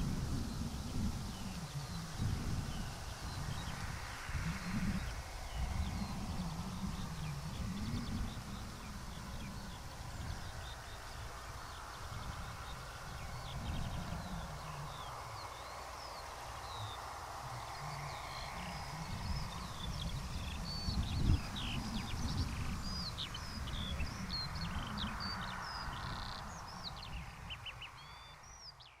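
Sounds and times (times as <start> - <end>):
small songbirds chirping: 0.0 - 29.0.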